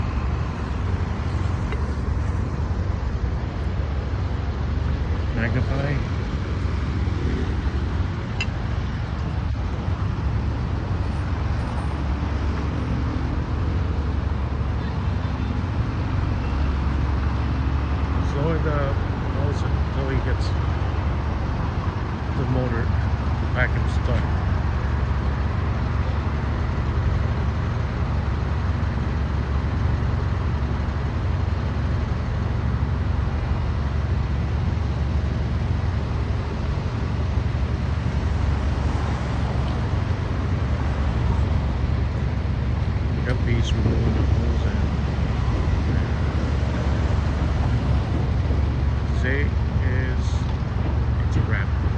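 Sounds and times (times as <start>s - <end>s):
vacuum truck rumbling: 0.0s - 51.9s.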